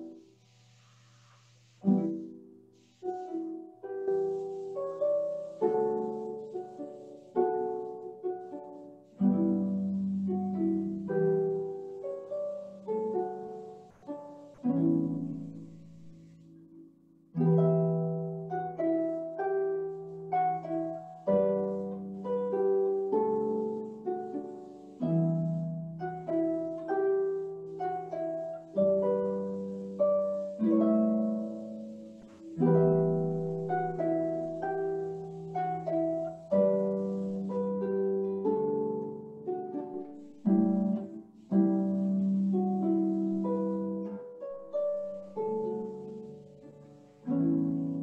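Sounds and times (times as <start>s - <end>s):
harp playing: 0.0s - 0.8s, 1.8s - 48.0s.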